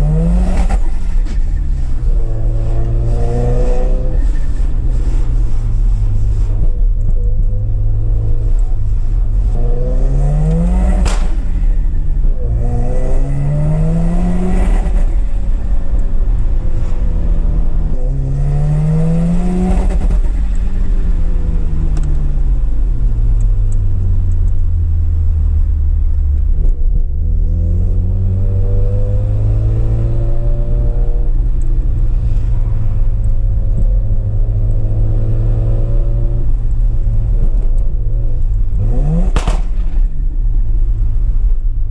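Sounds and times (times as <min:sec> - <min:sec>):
car engine revving: 0:00.0 - 0:22.2, 0:26.7 - 0:41.0.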